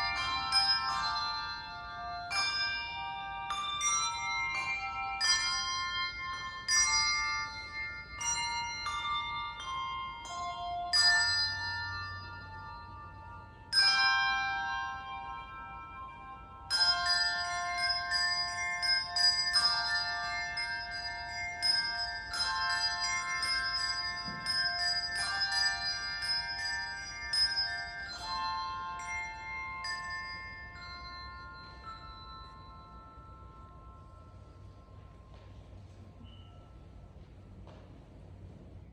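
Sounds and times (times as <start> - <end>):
handbell choir ringing: 0.0 - 38.9.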